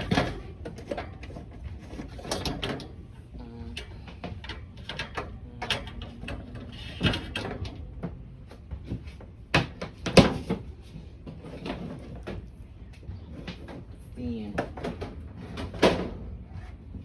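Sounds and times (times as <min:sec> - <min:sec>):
knocks and clatter of handling: 0:00.0 - 0:17.0.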